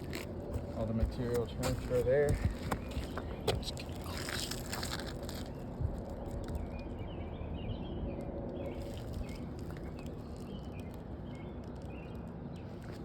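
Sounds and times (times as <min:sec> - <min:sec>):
birds chirping: 0:00.0 - 0:04.7, 0:05.4 - 0:13.0.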